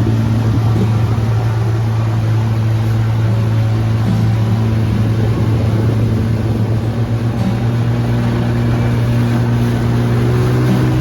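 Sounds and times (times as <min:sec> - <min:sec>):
outboard motor running: 0:00.0 - 0:11.0
water rushing: 0:00.0 - 0:11.0
wind noise: 0:00.0 - 0:11.0.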